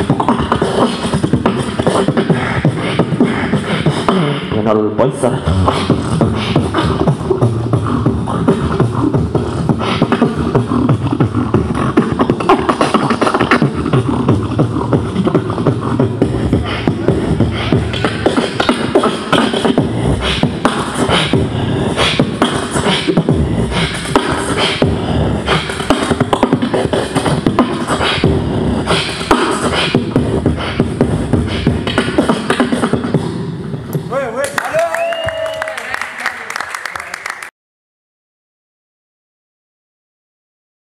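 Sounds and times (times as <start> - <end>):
beatboxing through microphone: 0.0 - 35.4.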